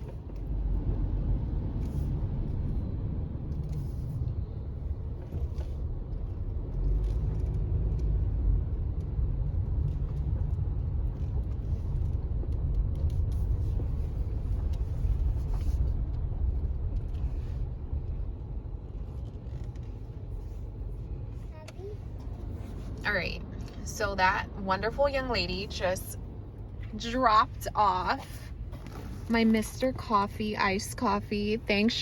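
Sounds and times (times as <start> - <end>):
car engine rumble inside cabin: 0.0 - 32.0.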